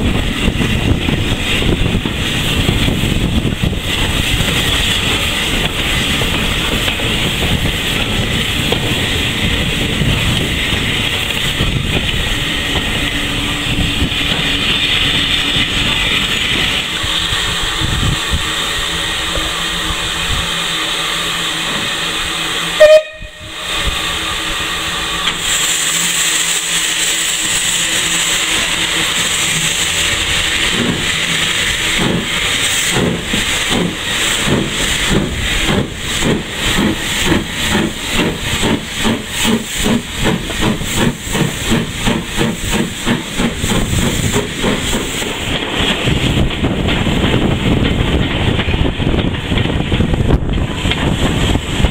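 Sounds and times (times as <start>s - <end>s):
loud steam burst: 0.0s - 49.2s
steam hissing: 0.0s - 51.9s
steam locomotive exhaust beats: 0.0s - 51.9s.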